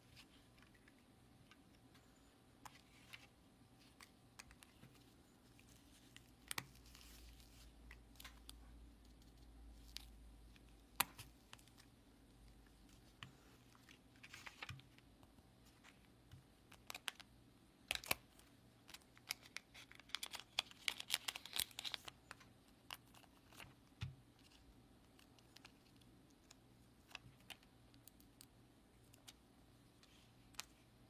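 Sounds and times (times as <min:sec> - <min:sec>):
light clicks and crinkling: 0:00.1 - 0:30.9.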